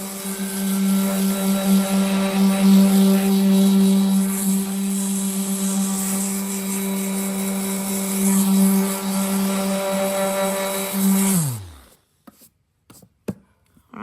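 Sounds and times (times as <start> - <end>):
electric power tool running: 0.0 - 12.0.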